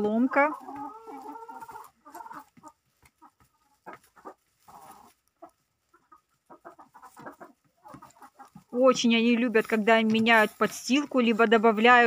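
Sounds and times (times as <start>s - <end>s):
hens clucking quietly: 0.0s - 12.0s
rustling in straw: 0.0s - 12.0s.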